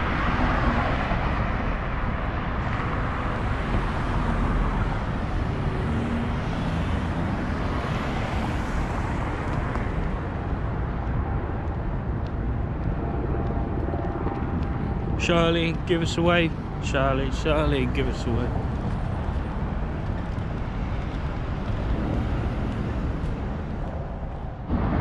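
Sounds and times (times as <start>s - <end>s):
low traffic rumble: 0.0s - 25.0s
passing cars: 0.0s - 25.0s.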